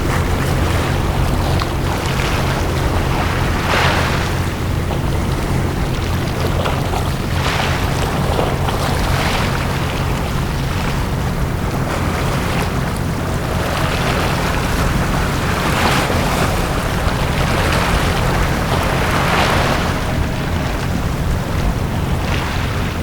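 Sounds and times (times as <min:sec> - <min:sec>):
small waves washing onto beach: 0:00.0 - 0:23.0
steady low rumble: 0:00.0 - 0:23.0.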